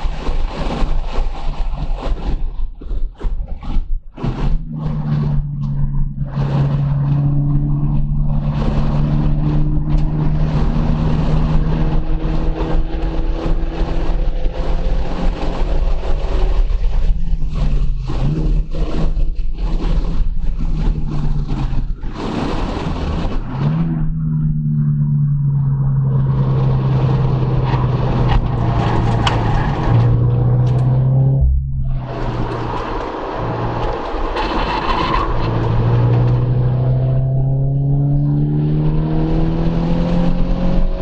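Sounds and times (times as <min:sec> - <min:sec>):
tyre and road noise: 0:00.0 - 0:41.0
car engine accelerating: 0:03.2 - 0:41.0.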